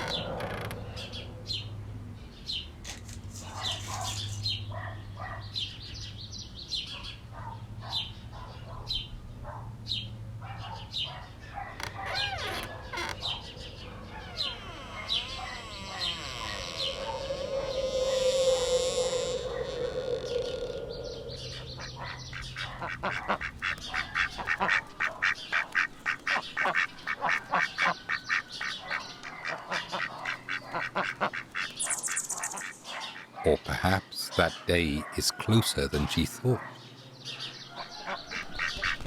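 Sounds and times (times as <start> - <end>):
birds chirping: 0.0 - 7.2, 9.9 - 39.0.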